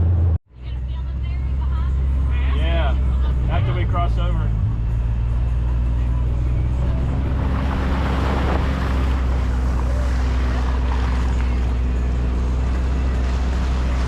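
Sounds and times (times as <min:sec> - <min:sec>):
vehicle engine running steadily: 0:00.0 - 0:14.0.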